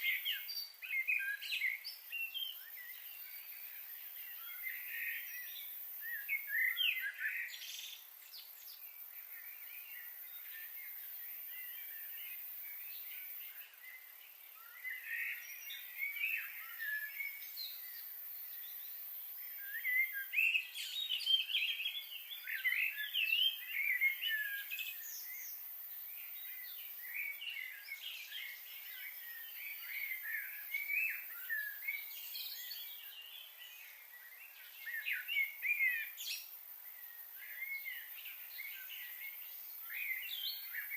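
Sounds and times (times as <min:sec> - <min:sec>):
faint high hiss: 0:00.0 - 0:40.9
small birds chirping: 0:00.0 - 0:40.9.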